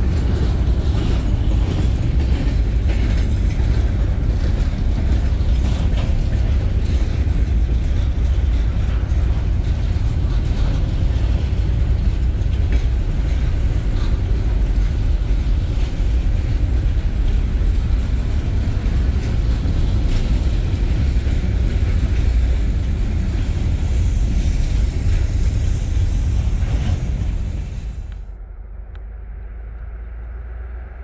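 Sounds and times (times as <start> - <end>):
steel wheels rumbling on rail: 0.0 - 31.0.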